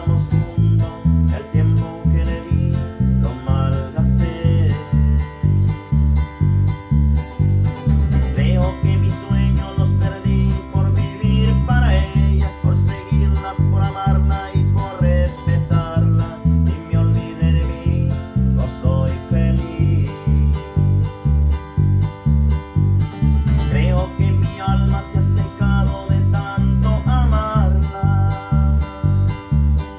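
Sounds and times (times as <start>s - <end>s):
guitar playing: 0.0s - 29.9s
heavy bass beat: 0.0s - 29.9s.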